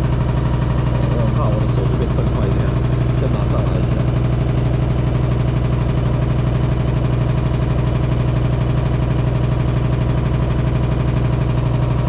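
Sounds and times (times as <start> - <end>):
fast pulsing rattle: 0.0 - 12.0
washing machine spinning: 0.0 - 12.0.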